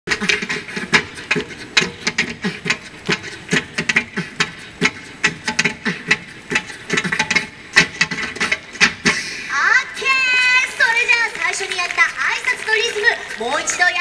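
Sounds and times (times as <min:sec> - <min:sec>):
crowd voices: 0:00.1 - 0:14.0.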